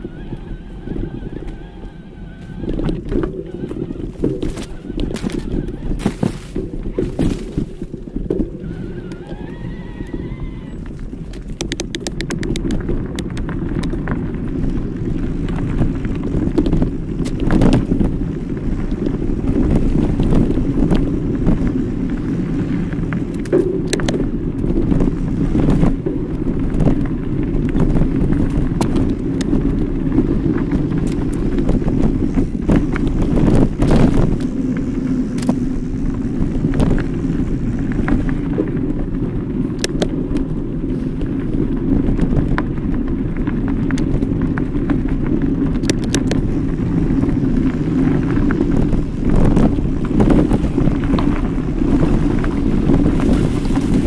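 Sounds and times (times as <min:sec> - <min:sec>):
bike knocks and rattles: 0:00.0 - 0:54.0
tyres rolling over dirt: 0:00.0 - 0:54.0
wind buffeting microphone: 0:00.0 - 0:54.0.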